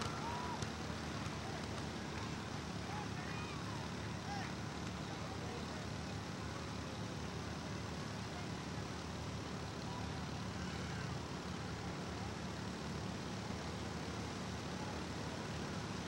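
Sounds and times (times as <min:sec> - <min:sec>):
lawn mower engines humming: 0:00.0 - 0:16.0.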